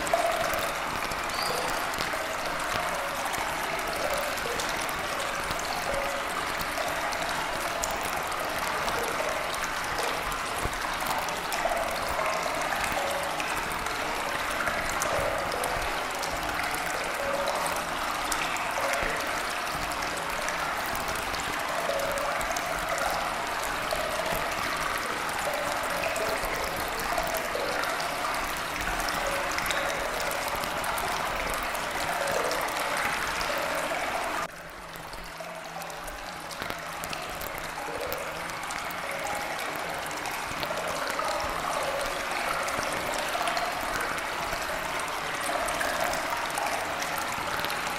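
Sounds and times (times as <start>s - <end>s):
trickling running water: 0.0s - 47.9s.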